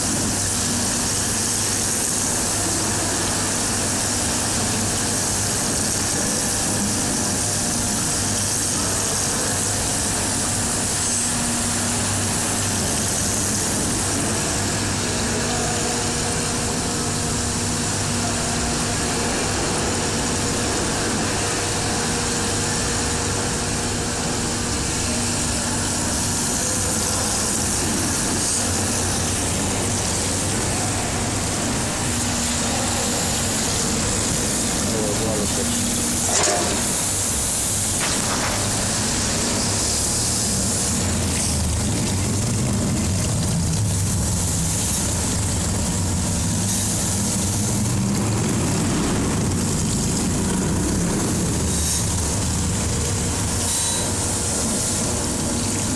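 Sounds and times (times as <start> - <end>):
compressor running: 0.0 - 55.9.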